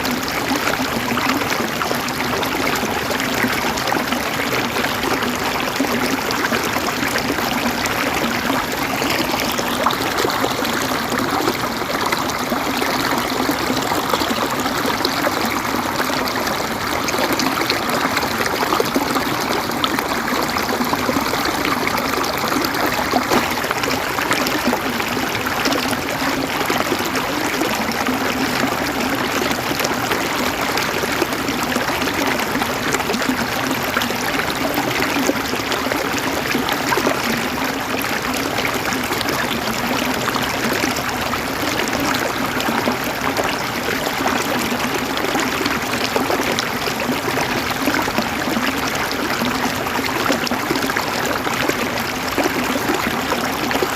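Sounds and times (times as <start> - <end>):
river water flowing over rocks: 0.0 - 53.9.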